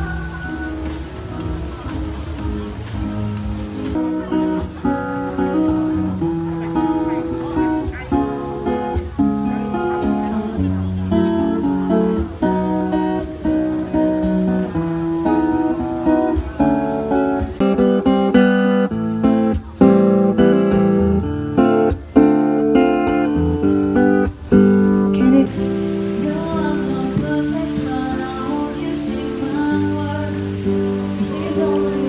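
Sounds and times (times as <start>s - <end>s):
acoustic guitar picked melody: 0.0s - 32.0s
acoustic guitar strummed chords: 0.0s - 32.0s.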